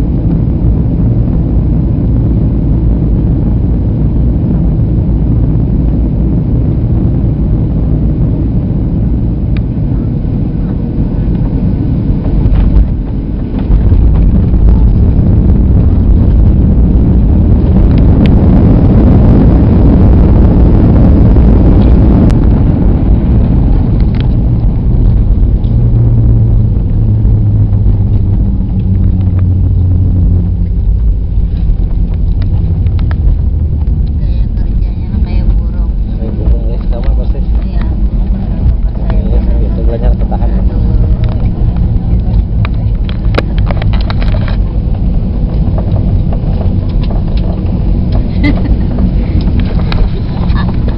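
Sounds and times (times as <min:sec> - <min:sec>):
jet cabin rumble: 0:00.0 - 0:50.9.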